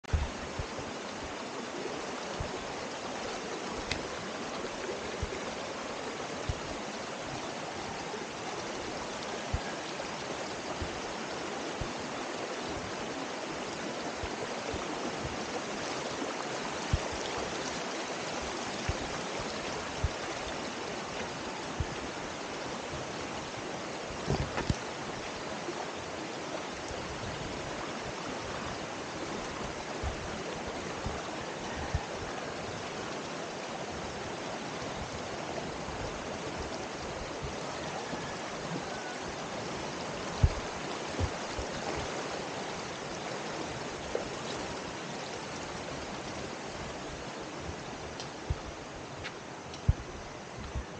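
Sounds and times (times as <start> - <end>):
stream rushing over rocks: 0.0 - 50.9.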